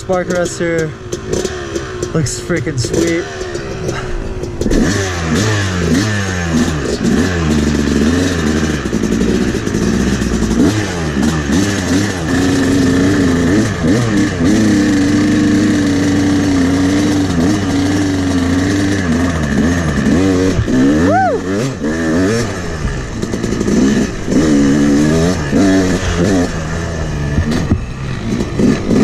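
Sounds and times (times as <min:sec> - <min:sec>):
two-stroke dirt bike engine revving: 0:00.0 - 0:29.0.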